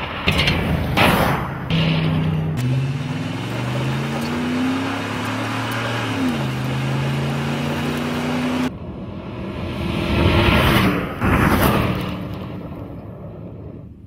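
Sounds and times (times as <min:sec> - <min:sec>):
truck engine accelerating hard: 0:01.7 - 0:13.9.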